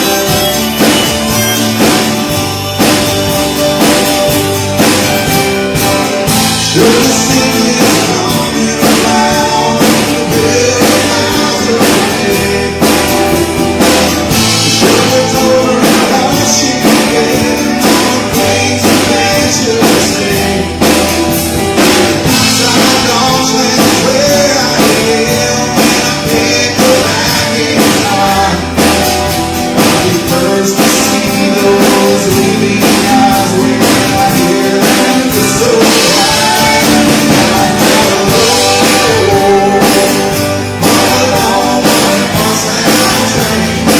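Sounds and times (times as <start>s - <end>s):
live rock band playing: 0.0s - 43.9s
steady drum beat: 0.0s - 43.9s.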